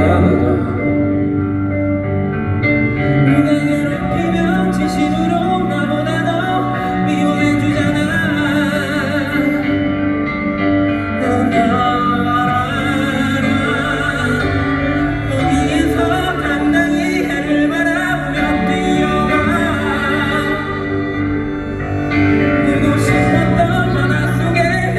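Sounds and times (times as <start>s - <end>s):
wavering vocal melody: 0.0s - 24.9s.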